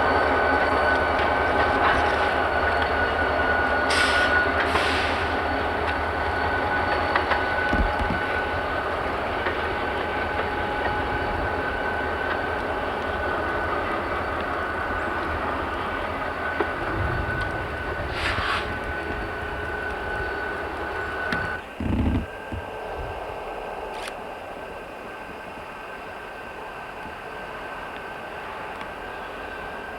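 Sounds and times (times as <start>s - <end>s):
train rumbling past: 0.0s - 29.9s.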